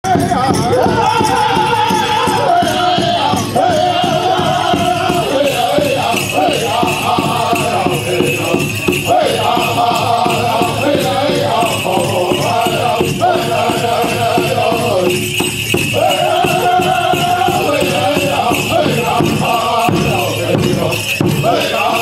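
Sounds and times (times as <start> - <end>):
drum group singing high-pitched: 0.0 - 22.0
steady drumbeat: 0.0 - 22.0
dancers' regalia bells jingling: 0.1 - 22.0.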